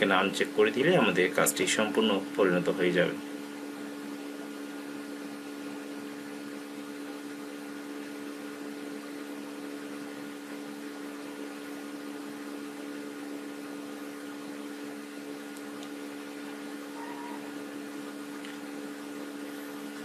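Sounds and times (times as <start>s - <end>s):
steady hum with low tones: 0.0s - 20.0s.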